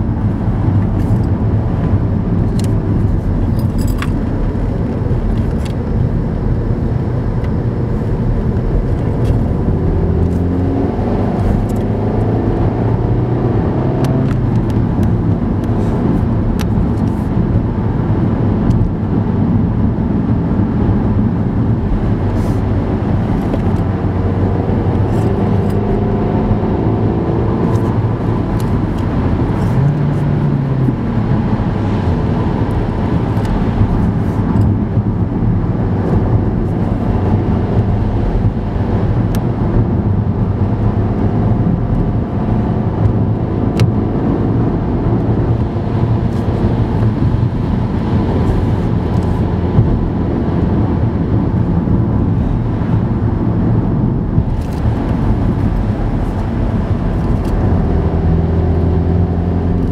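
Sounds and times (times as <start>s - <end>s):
car engine hum: 0.0s - 59.9s.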